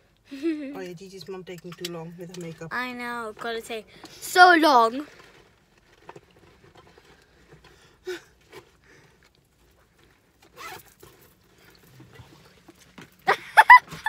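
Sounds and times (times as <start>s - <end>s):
rustling and handling noises: 2.2s - 14.0s.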